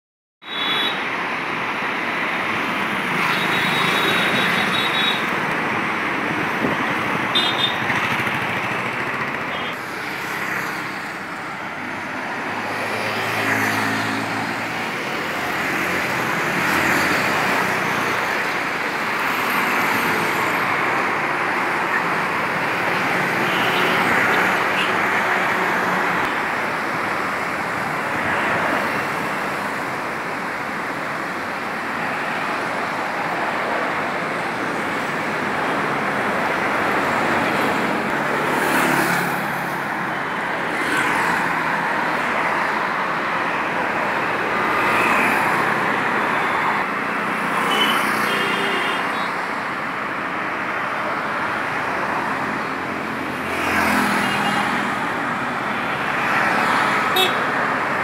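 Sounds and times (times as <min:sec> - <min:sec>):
cars and motorbikes passing: 0:01.0 - 0:58.0.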